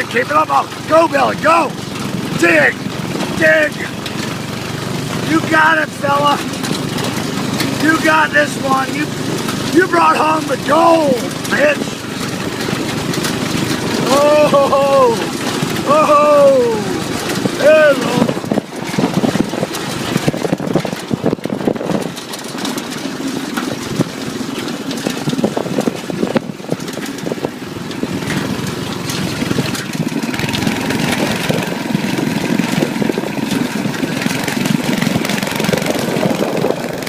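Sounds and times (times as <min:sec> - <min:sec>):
go-kart engine running: 0:00.0 - 0:37.0
knocks and rattles: 0:00.0 - 0:37.0.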